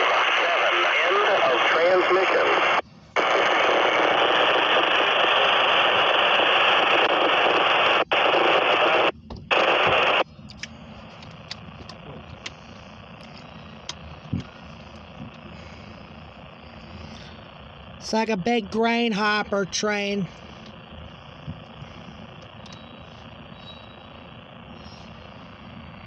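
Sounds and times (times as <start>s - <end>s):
faint low rumble: 0.0s - 26.0s
radio static hiss: 0.0s - 26.0s.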